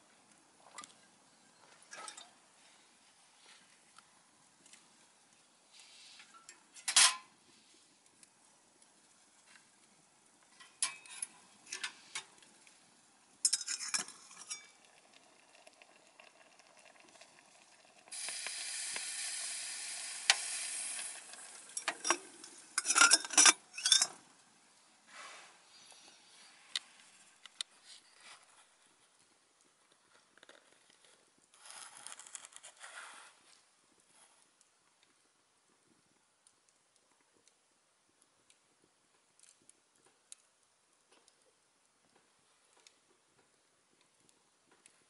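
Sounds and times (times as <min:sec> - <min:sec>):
steady sizzling hiss: 0:00.0 - 0:45.0.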